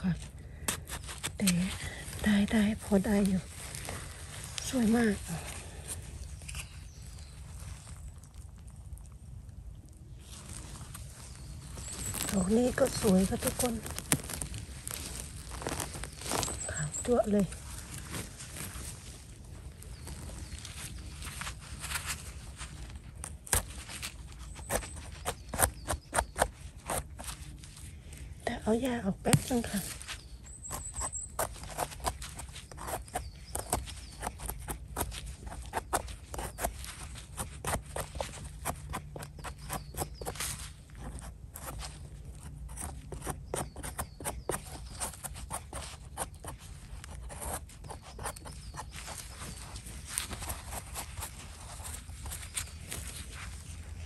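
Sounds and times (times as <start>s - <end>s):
hands handling mushroom: 0.0s - 54.0s
knife scraping mushroom stem: 0.2s - 7.3s, 11.0s - 18.9s, 19.9s - 28.1s, 28.8s - 54.0s.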